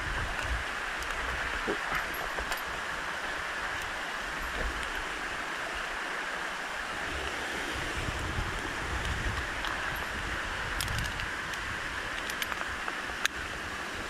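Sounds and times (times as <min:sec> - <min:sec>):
rushing flowing water: 0:00.0 - 0:14.0.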